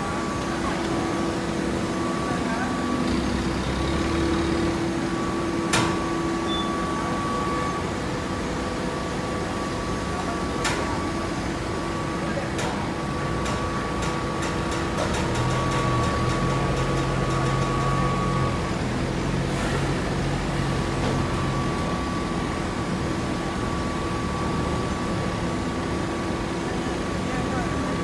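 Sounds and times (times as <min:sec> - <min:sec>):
industrial machine hum: 0:00.0 - 0:28.0.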